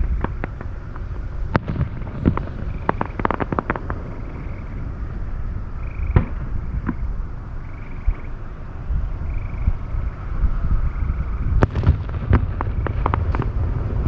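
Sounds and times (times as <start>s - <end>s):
distant fireworks cracking: 0.0s - 14.0s
wind rumble on microphone: 0.0s - 14.0s.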